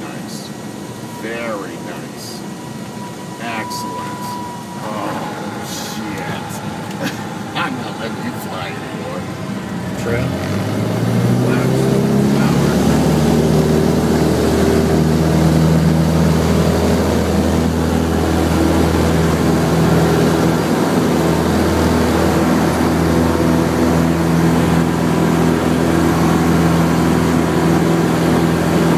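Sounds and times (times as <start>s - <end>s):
airplane engine and propeller: 0.0s - 28.9s.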